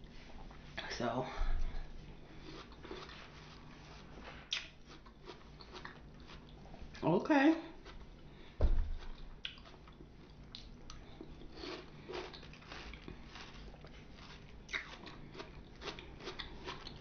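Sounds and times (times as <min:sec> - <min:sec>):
person chewing fruit: 0:02.0 - 0:07.0, 0:07.7 - 0:17.0.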